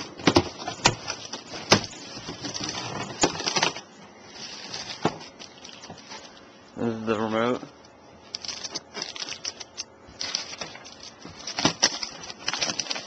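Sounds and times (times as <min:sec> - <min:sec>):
packaging rustling: 0:00.0 - 0:06.5, 0:08.2 - 0:13.0.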